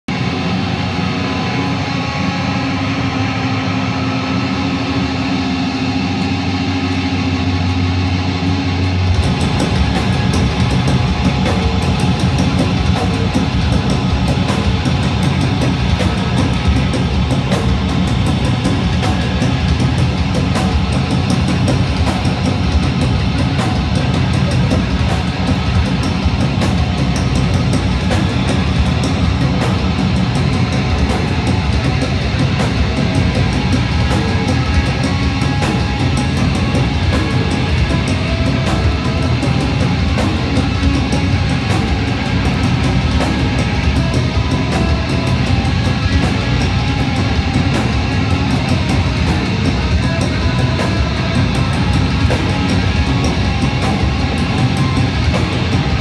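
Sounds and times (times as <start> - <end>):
drums: 0.0 - 56.0
punk band playing live: 0.1 - 56.0.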